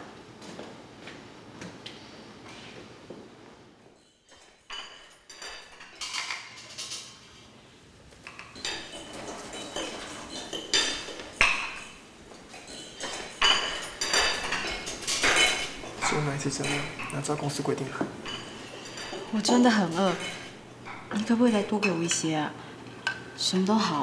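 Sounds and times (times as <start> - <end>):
plates and utensils clinking: 3.9 - 7.5, 8.1 - 24.0.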